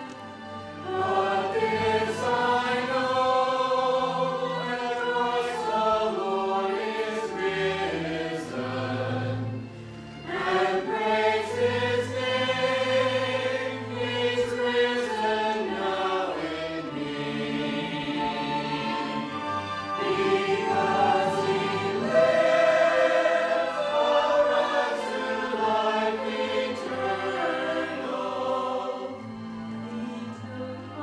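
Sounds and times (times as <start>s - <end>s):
choir singing a hymn: 0.0s - 31.0s
low accompanying notes: 0.0s - 31.0s.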